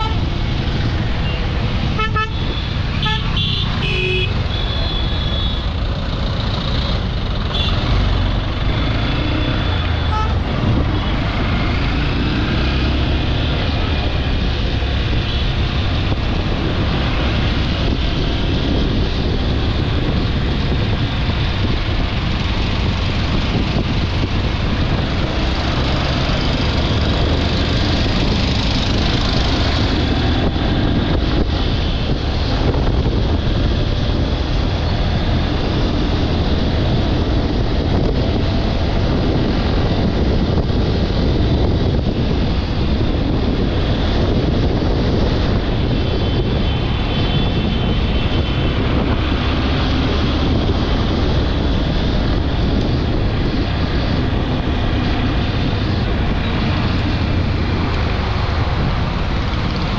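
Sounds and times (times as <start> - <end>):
road noise: 0.0 - 59.9
wind noise: 0.0 - 59.9.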